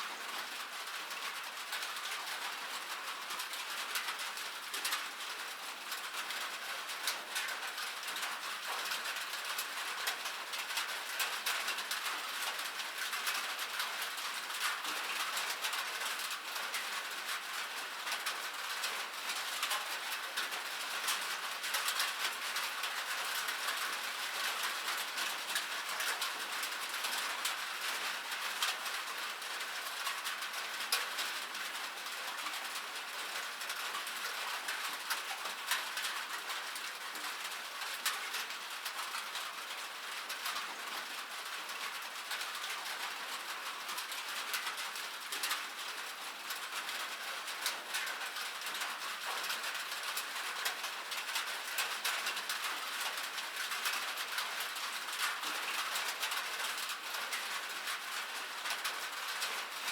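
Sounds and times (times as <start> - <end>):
rain on metal: 0.1 - 59.9.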